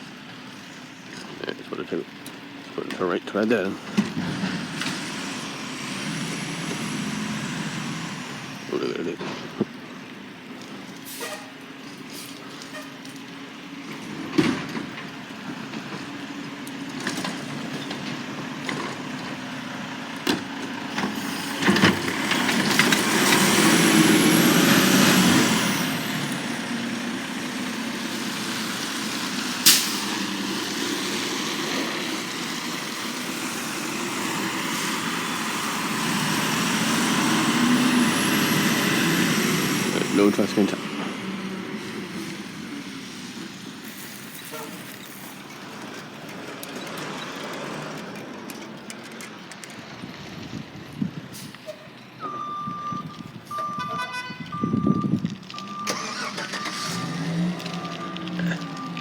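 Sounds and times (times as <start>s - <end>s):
garbage truck engine running: 0.0s - 51.5s.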